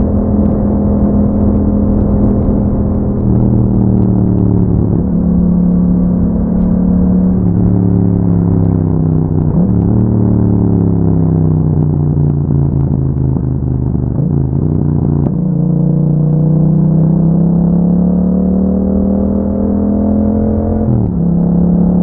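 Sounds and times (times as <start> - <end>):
motorcycle engine riding: 0.0 - 22.0.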